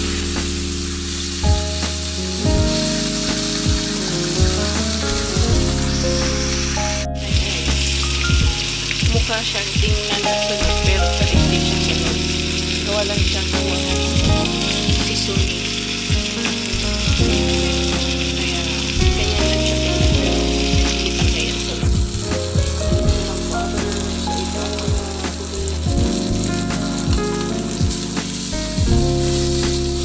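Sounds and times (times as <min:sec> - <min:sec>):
fish sizzling in a frying pan: 0:00.0 - 0:04.4, 0:07.5 - 0:10.8, 0:11.5 - 0:22.5, 0:23.1 - 0:28.5, 0:29.2 - 0:30.0.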